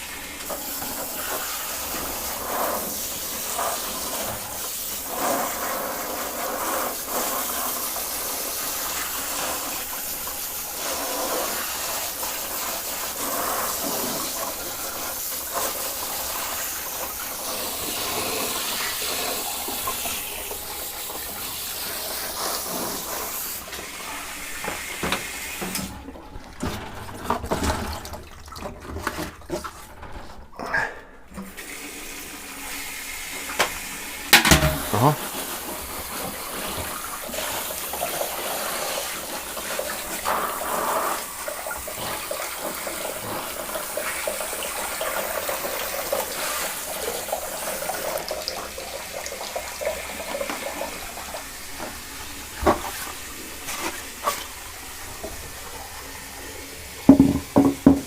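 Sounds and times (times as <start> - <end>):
shower water running: 0.0 - 58.0.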